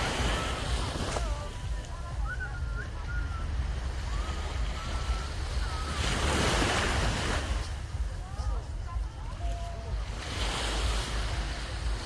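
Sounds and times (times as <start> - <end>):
faint distant voices: 0.0 - 12.0
ocean waves on a beach: 0.0 - 12.0.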